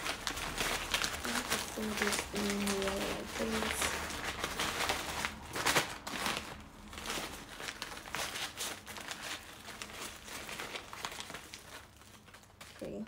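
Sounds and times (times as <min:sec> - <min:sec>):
stiff fabric rustling and crinkling: 0:00.0 - 0:13.0.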